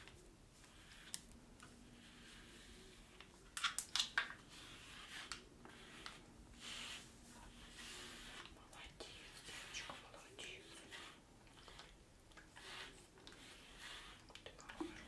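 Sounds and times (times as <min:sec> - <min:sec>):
brush swishing through fur: 0:00.0 - 0:03.4, 0:04.4 - 0:08.6, 0:09.2 - 0:14.3.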